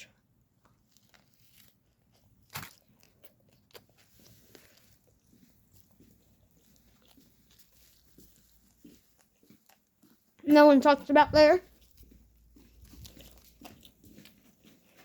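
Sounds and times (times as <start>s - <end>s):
small rustling noises: 0.5s - 15.0s.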